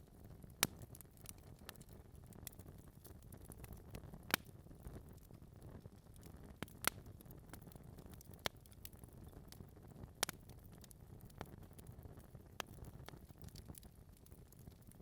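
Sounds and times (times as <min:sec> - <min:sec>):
logs crackling and popping: 0:00.2 - 0:15.0.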